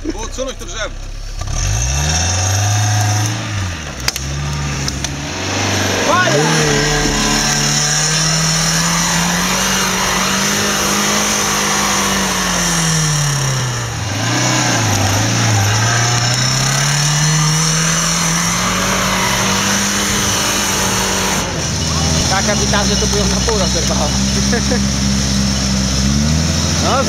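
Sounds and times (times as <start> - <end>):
engine revving hard: 0.8 - 27.0.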